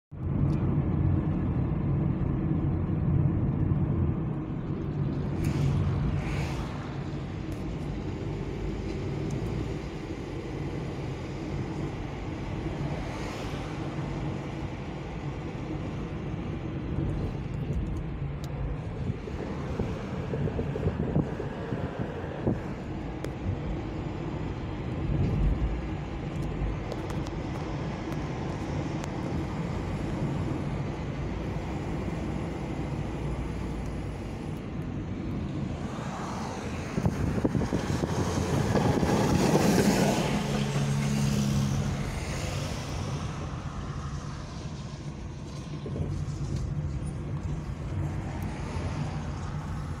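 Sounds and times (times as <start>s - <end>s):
car road noise: 0.1s - 50.0s
passing traffic: 0.1s - 50.0s.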